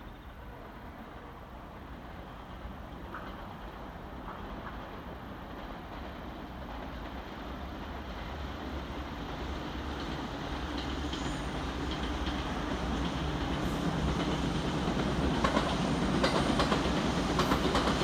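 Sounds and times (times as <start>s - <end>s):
electric train rumbling on tracks: 0.0s - 18.0s.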